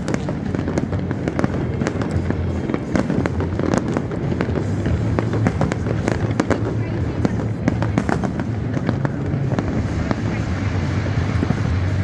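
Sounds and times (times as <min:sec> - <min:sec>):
fireworks cracking and popping: 0:00.0 - 0:12.0
low rumble of bangs: 0:00.0 - 0:12.0.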